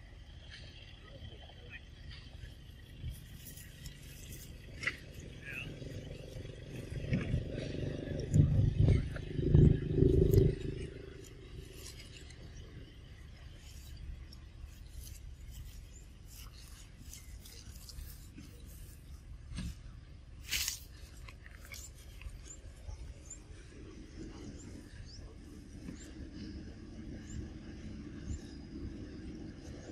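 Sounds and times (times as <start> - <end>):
low rumble: 0.0 - 29.9.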